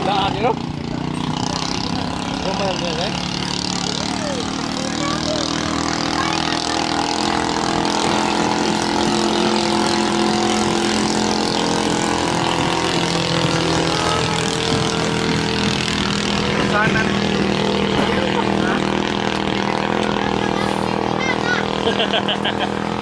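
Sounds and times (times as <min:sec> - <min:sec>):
boat engine whining at high speed: 0:00.0 - 0:23.0.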